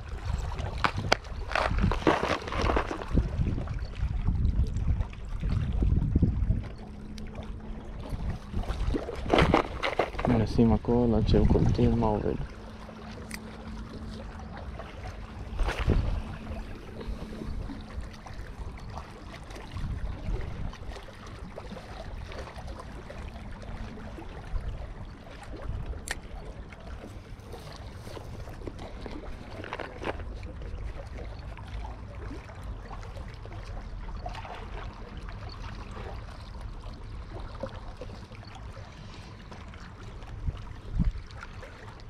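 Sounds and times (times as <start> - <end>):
wind rumble on microphone: 0.0 - 34.6, 40.0 - 42.0
small waves lapping: 0.0 - 42.0.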